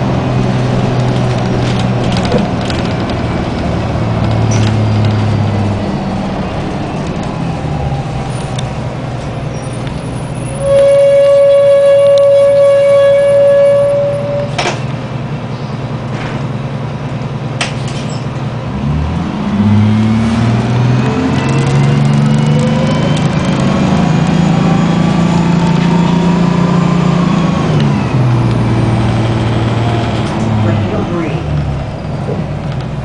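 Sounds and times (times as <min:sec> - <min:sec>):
rising whine: 0:00.0 - 0:14.6, 0:18.7 - 0:32.4
bus diesel engine accelerating: 0:00.0 - 0:33.0.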